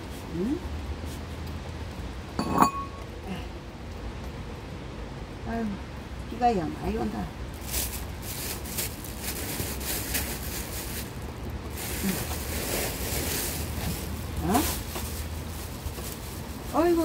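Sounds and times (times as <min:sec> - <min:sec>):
heavy rain on a roof: 0:00.0 - 0:02.4, 0:03.1 - 0:17.0
low rumble of wind: 0:00.0 - 0:17.0.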